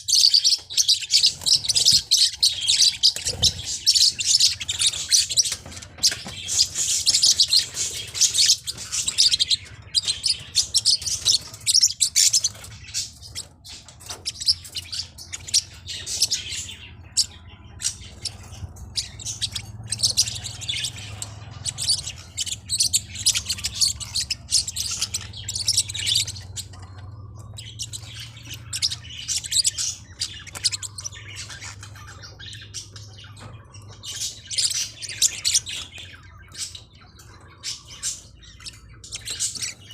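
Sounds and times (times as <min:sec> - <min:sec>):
parrotlet chirping: 0:00.0 - 0:39.9.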